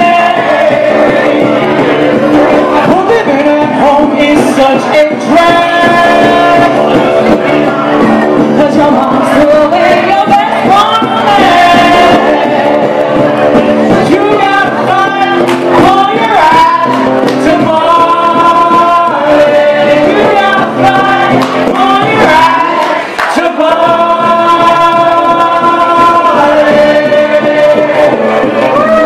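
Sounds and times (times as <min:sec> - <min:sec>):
woman and man singing: 0:00.0 - 0:07.4, 0:08.5 - 0:29.0
acoustic guitar: 0:00.0 - 0:29.0.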